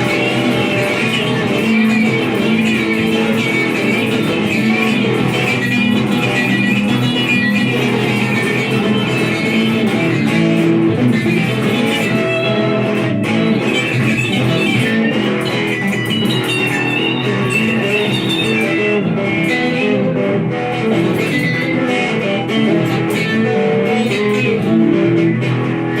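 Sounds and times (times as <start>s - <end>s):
electric guitars jamming: 0.0s - 26.0s.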